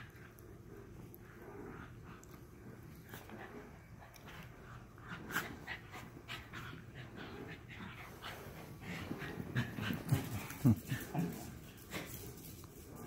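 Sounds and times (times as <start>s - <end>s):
dogs panting: 0.0s - 13.0s.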